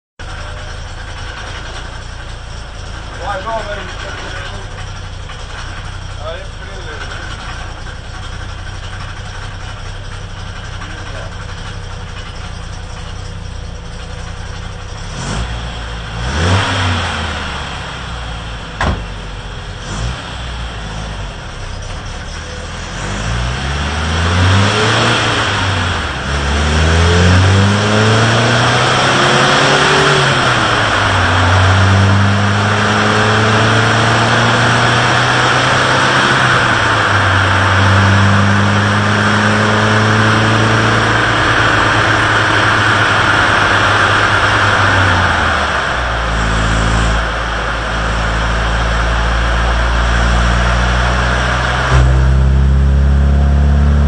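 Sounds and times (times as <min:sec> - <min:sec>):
car engine revving: 0:00.2 - 0:54.0.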